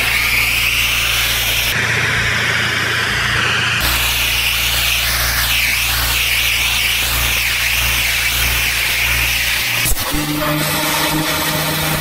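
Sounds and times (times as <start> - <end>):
pressure washer jet hissing: 0.0 - 1.8, 3.4 - 12.0
machine humming: 0.0 - 12.0.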